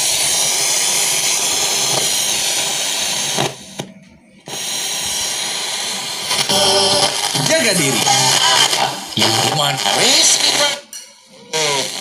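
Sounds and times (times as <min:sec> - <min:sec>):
radio speaker static hiss: 0:00.0 - 0:12.0.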